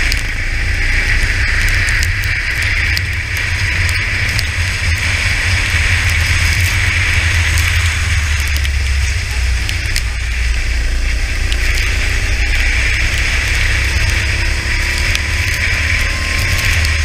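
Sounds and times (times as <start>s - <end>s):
go-kart engine running: 0.0s - 17.0s
hiss of spray and wind: 0.0s - 17.0s
raindrops hitting camera: 0.0s - 17.0s.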